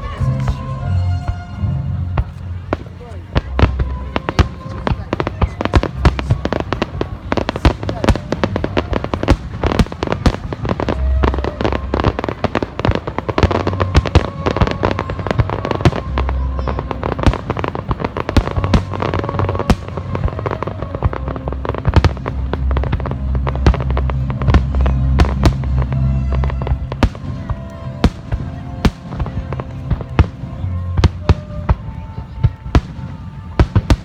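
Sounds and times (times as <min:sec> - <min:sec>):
fireworks bangs and crackles: 0:00.0 - 0:34.0
music playing: 0:00.0 - 0:34.0.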